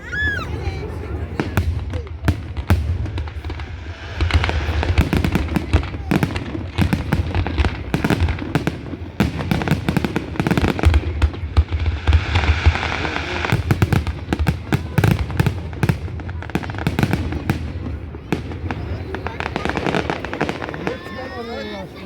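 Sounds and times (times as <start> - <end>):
fireworks hissing: 0.0 - 21.8
fireworks bangs and crackles: 0.0 - 22.0.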